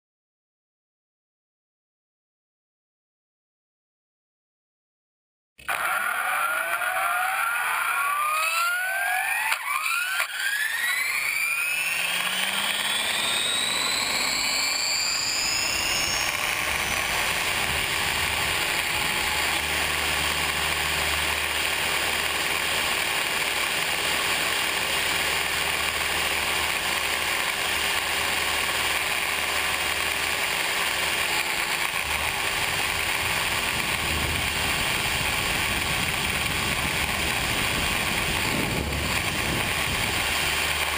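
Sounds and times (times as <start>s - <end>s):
rc helicopter motor and rotor whine: 5.6s - 40.9s.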